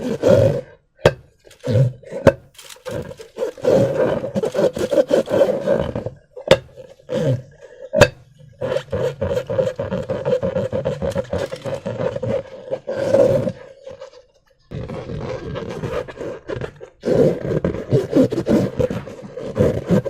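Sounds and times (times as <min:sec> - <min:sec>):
squeaking squelching balloons: 0:01.4 - 0:07.8, 0:08.4 - 0:20.0.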